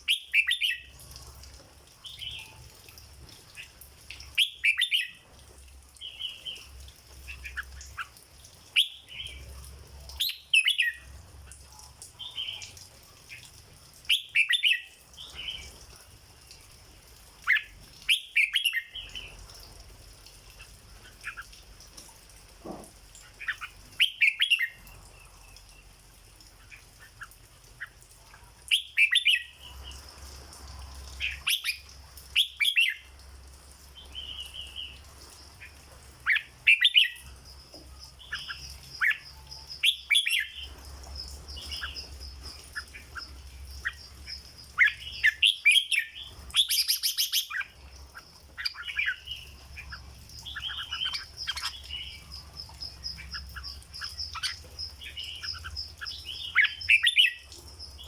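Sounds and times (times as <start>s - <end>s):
bird singing warbling phrases: 0.0s - 1.3s, 3.5s - 5.3s, 5.9s - 16.6s, 17.4s - 19.7s, 22.7s - 30.1s, 31.1s - 33.2s, 34.0s - 58.0s.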